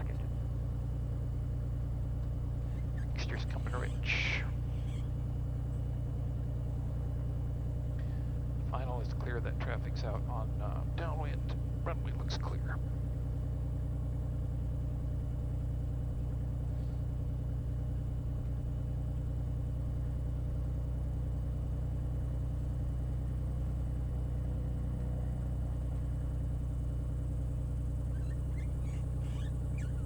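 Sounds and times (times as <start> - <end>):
aircraft piston engine droning: 0.0 - 30.0.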